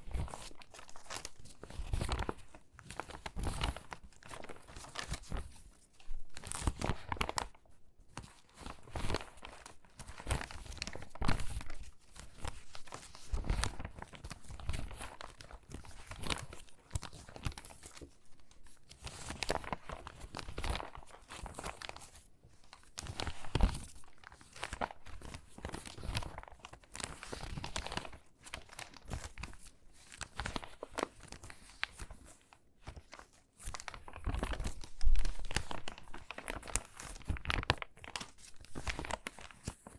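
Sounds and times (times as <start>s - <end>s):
paper pages rustling and crackling: 0.0s - 39.9s.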